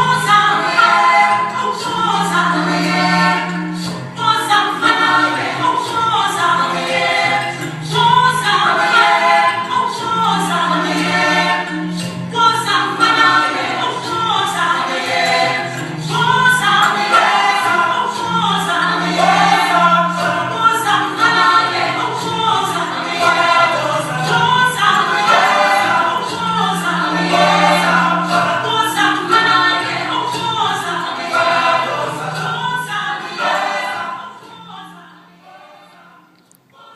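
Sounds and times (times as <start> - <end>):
gospel choir singing: 0.0 - 36.9.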